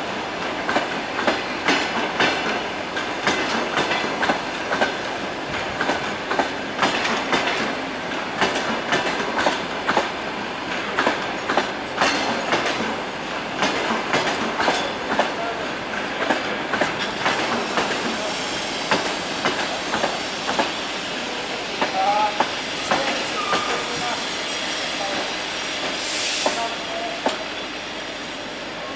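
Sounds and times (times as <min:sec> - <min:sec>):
train wheels clicking over rail joints: 0:00.4 - 0:24.2, 0:25.0 - 0:27.6.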